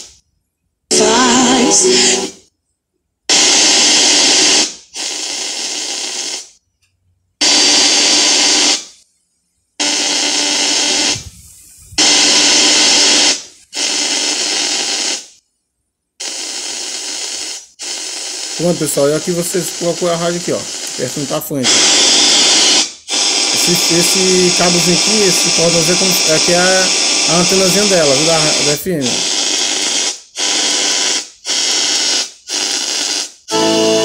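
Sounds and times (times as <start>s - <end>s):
hissy radio bursts: 0.9s - 2.5s, 3.3s - 6.6s, 7.4s - 8.9s, 9.8s - 15.4s, 16.2s - 34.0s.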